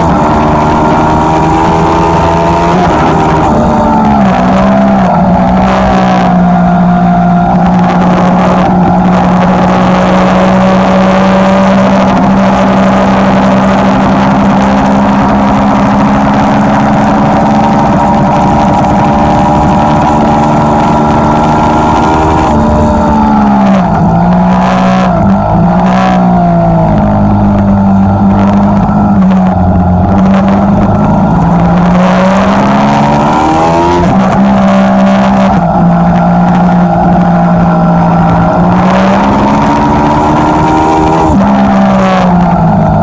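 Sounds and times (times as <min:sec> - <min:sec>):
heavy wind rush: 0:00.0 - 0:43.0
motorcycle engine: 0:00.0 - 0:43.0.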